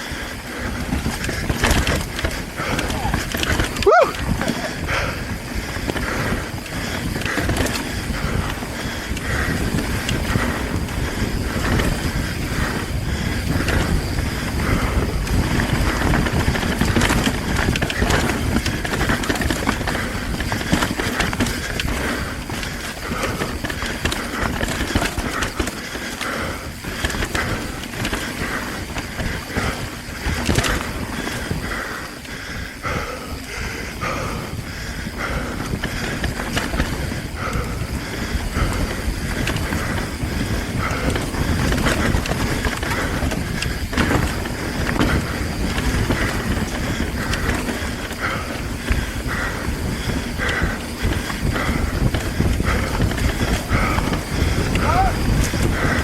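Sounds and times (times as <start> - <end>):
bike clattering and rattling: 0.0 - 56.0
bike tyres rumbling over dirt: 0.0 - 56.0.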